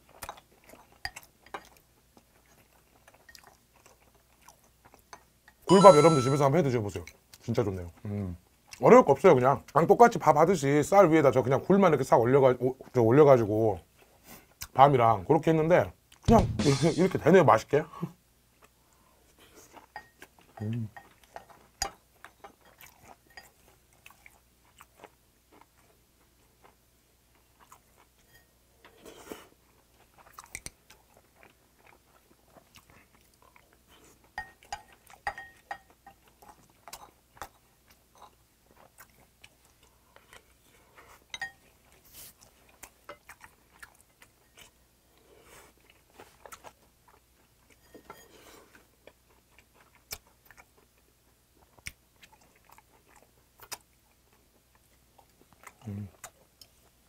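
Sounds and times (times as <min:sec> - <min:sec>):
person chewing and eating: 0:00.0 - 0:06.2, 0:06.9 - 0:08.8, 0:18.6 - 0:57.0.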